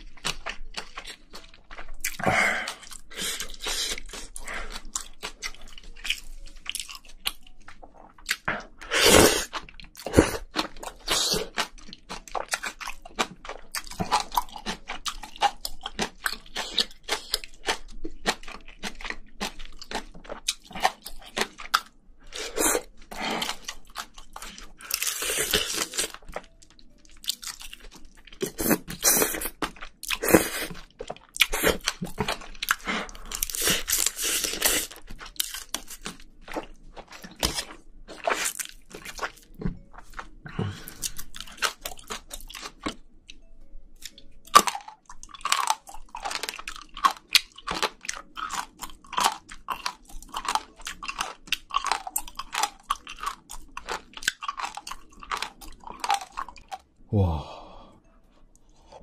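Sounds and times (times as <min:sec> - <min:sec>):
crunchy chewing: 0:00.0 - 0:56.9.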